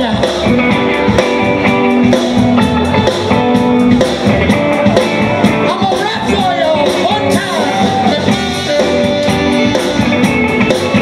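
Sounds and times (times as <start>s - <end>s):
bass guitar: 0.0s - 11.0s
drums: 0.0s - 11.0s
electric guitars: 0.0s - 11.0s.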